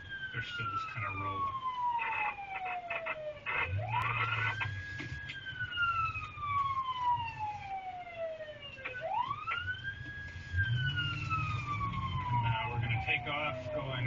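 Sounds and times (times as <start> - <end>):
emergency vehicle siren wailing: 0.0 - 14.0.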